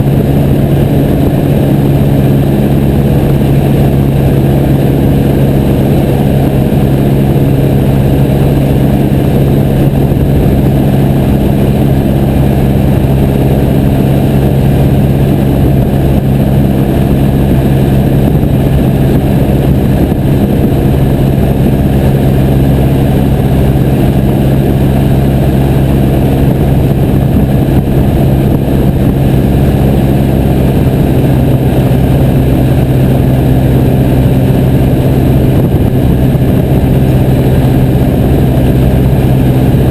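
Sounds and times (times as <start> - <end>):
airplane engine droning: 0.0 - 39.9.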